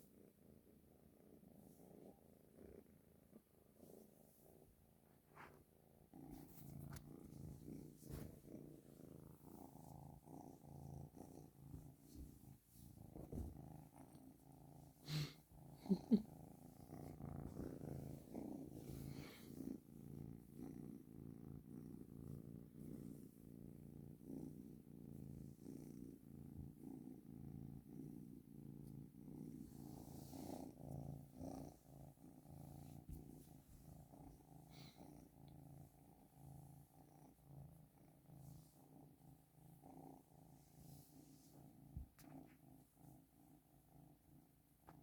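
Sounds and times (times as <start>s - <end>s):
kitten purring: 0.0s - 45.0s.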